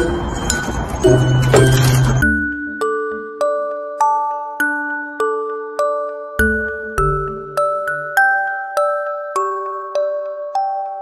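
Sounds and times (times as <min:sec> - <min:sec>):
bell-like lullaby tune: 0:00.0 - 0:11.0.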